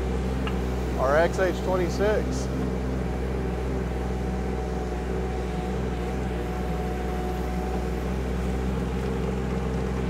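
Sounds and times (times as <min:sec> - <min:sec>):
excavator diesel engine running: 0:00.0 - 0:10.0
thin steady whine: 0:00.0 - 0:10.0.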